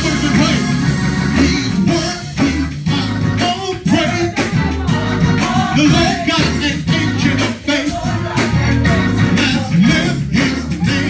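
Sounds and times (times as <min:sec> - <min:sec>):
bass notes: 0:00.0 - 0:11.0
drum beat: 0:00.0 - 0:11.0
gospel choir singing: 0:00.0 - 0:11.0
lead singer: 0:00.0 - 0:11.0.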